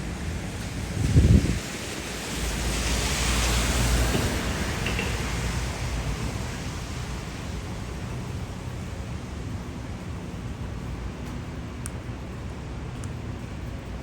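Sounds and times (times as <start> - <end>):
city street noise: 0.0 - 14.0.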